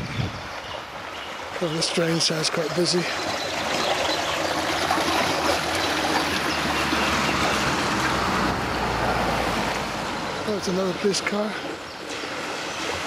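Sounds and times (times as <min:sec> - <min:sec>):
water rushing down a drain: 0:01.0 - 0:13.0.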